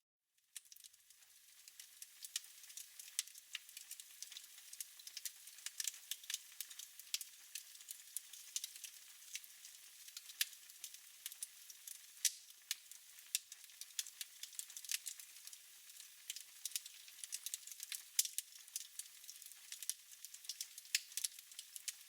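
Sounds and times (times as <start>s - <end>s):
wood fire crackling: 0.6s - 22.0s.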